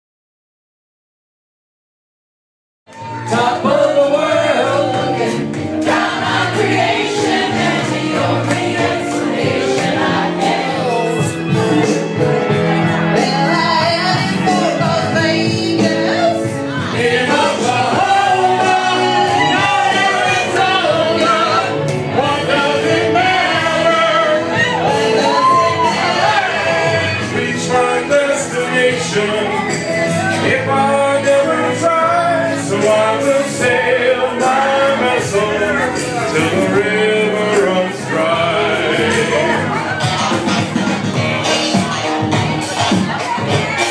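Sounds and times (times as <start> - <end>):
music: 2.9 - 43.9
people singing into a microphone: 3.0 - 43.9.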